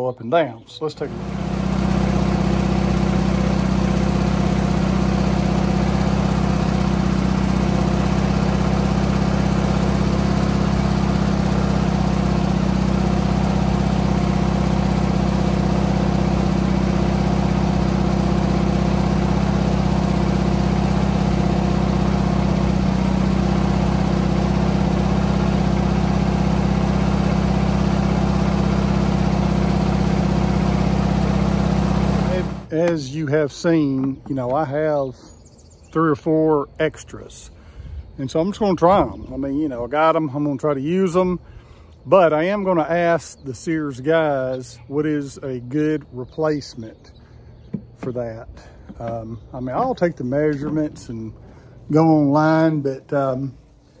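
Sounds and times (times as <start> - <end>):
garden tractor engine idling: 0.7 - 54.0.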